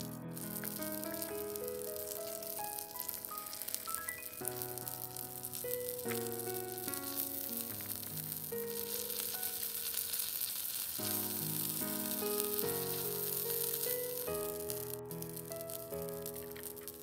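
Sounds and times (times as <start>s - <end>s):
instrumental background music: 0.0s - 10.2s, 11.0s - 17.0s
duck breast sizzling in skillet: 0.0s - 17.0s.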